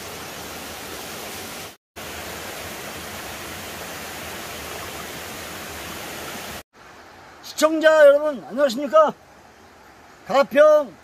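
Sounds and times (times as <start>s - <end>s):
stream rushing over stones: 0.0s - 11.0s.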